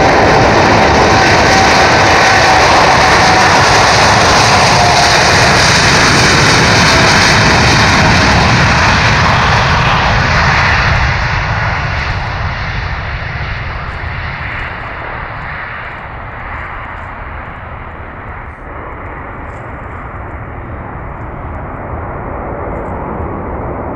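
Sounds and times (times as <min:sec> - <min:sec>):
jet engines at takeoff: 0:00.0 - 0:23.9.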